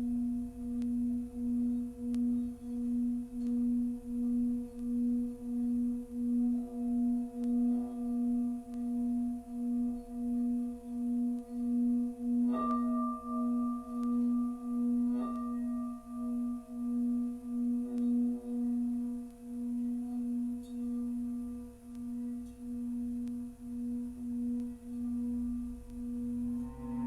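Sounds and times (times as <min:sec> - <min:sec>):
singing bowl sustained low tone: 0:00.0 - 0:27.0.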